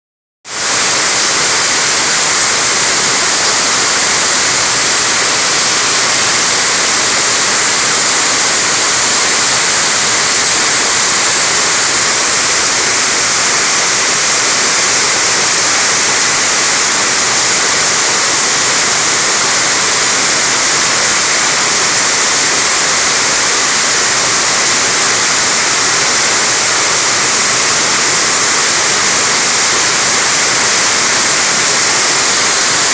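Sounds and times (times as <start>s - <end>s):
heavy rain on a roof: 0.4s - 32.9s.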